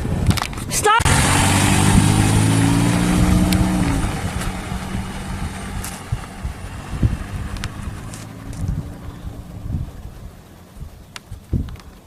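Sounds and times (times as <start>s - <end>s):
rushing road noise: 0.0s - 12.0s
vehicle engine humming: 0.0s - 12.0s.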